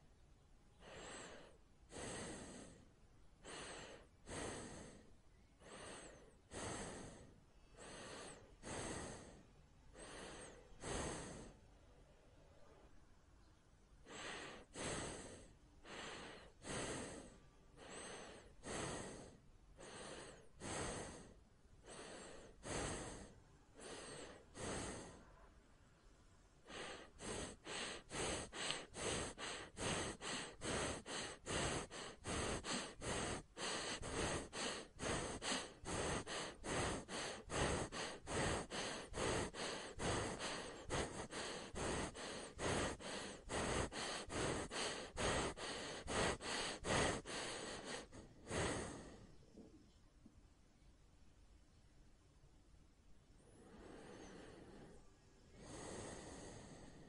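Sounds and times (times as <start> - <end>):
person breathing and panting: 0.0 - 49.8, 53.4 - 57.0.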